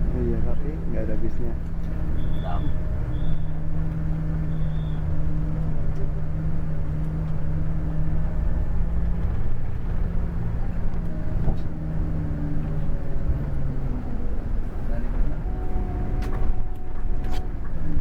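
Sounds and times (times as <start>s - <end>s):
diesel engine drone: 0.0s - 18.0s
low road rumble: 0.0s - 18.0s.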